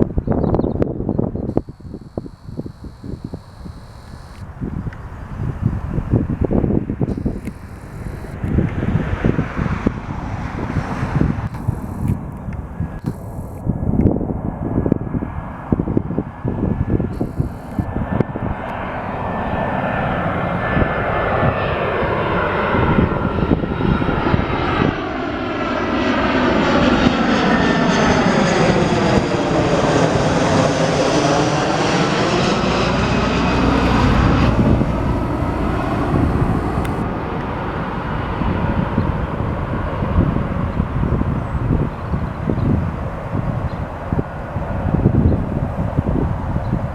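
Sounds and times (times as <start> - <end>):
jet airliner passing overhead: 0.0 - 46.9.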